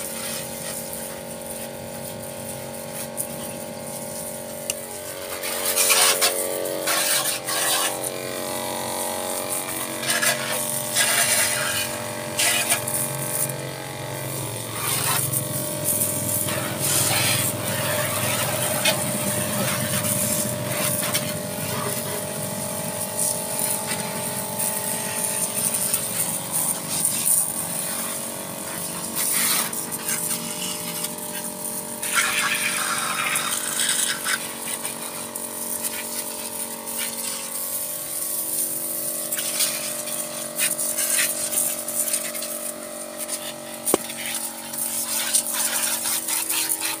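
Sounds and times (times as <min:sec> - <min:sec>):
water jet spraying: 0:00.0 - 0:47.0
water pump humming: 0:00.0 - 0:47.0.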